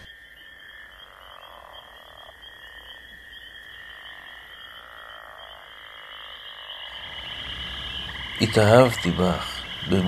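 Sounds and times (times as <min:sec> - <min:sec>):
frogs croaking: 0:00.0 - 0:10.0.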